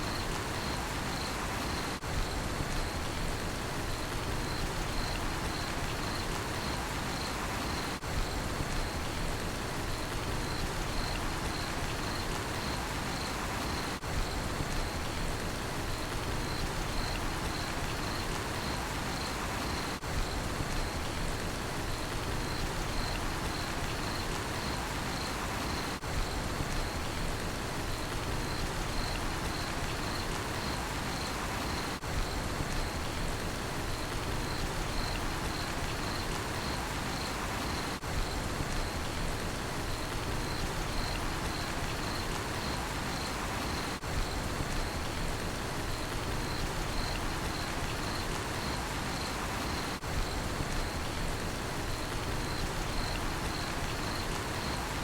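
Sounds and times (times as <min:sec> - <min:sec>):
cricket chirping: 0:00.0 - 0:03.2, 0:03.8 - 0:09.2, 0:09.9 - 0:15.2, 0:15.9 - 0:21.2, 0:21.8 - 0:27.2, 0:27.9 - 0:33.2, 0:33.8 - 0:55.0
steady rain falling: 0:00.0 - 0:55.0.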